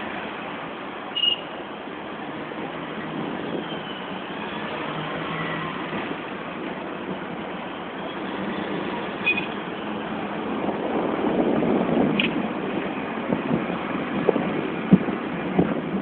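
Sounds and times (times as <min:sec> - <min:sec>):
traffic: 0:00.0 - 0:16.0.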